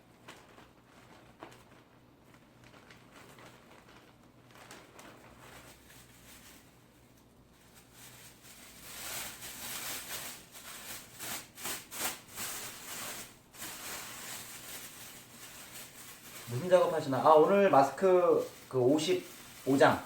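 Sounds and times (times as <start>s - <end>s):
packaging rustling: 0.0s - 20.0s.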